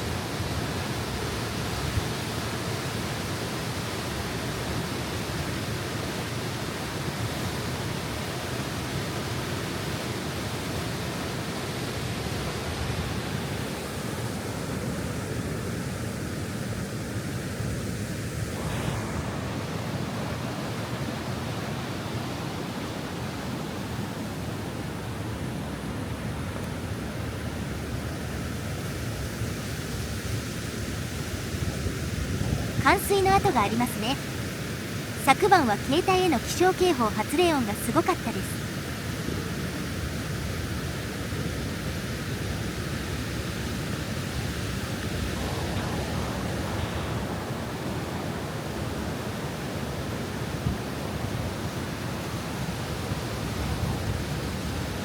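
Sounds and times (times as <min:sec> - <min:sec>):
river water roaring over weir: 0:00.0 - 0:35.8, 0:36.4 - 0:55.0.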